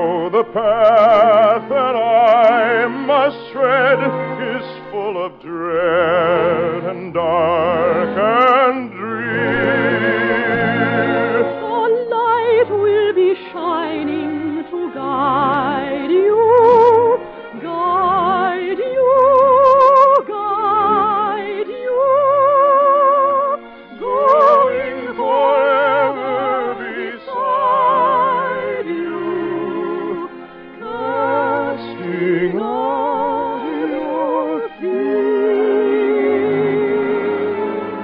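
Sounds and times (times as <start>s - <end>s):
operatic solo singing: 0.0s - 38.0s
orchestral accompaniment: 0.0s - 38.0s.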